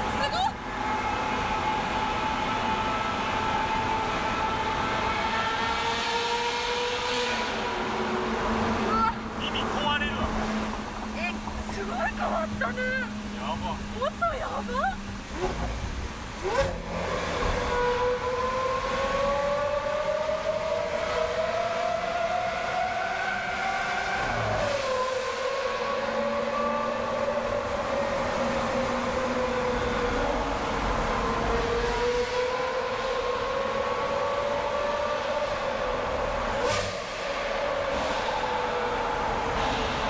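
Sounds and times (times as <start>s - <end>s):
car engine revving in tunnel: 0.0s - 40.0s.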